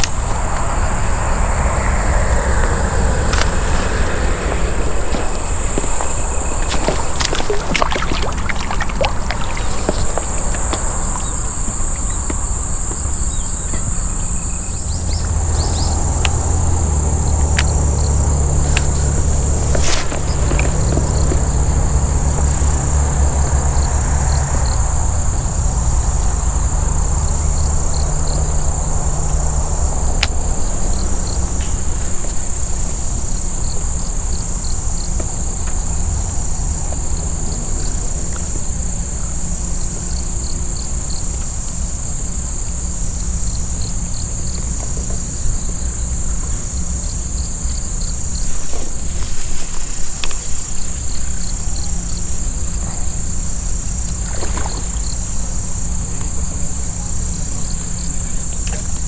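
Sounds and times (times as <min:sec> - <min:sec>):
constant low rumble: 0:00.0 - 0:59.0
crickets chirping: 0:00.0 - 0:59.0.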